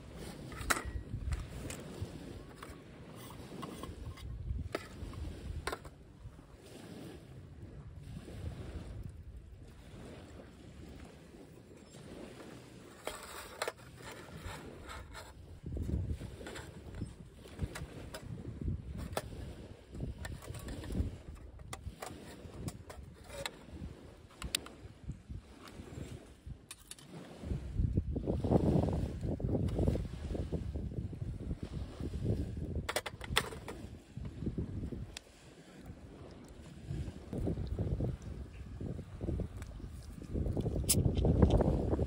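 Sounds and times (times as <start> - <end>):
wind rumble on microphone: 0.0 - 42.0.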